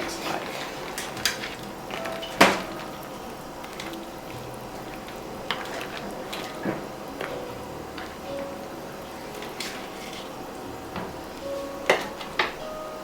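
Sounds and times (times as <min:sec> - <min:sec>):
water boiling in a pot: 0:00.0 - 0:13.0.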